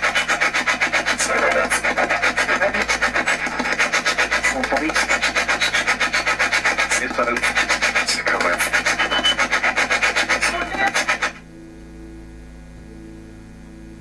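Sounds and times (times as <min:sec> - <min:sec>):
spirit box static chops: 0:00.0 - 0:11.5.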